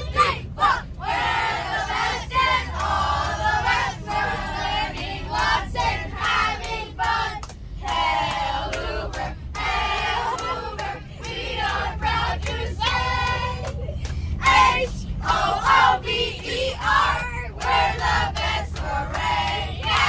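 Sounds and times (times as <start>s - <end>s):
low rumble of moving bus: 0.0s - 20.0s.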